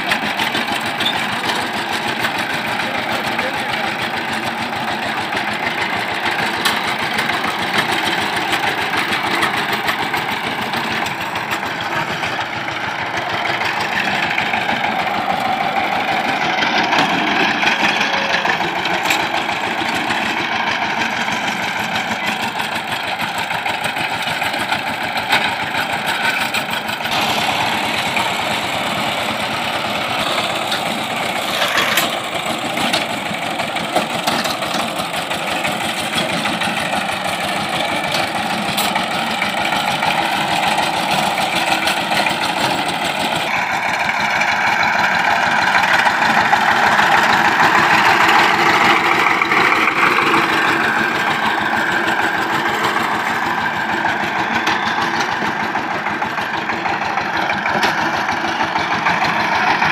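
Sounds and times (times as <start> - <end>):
power tiller diesel engine running: 0.0 - 59.9.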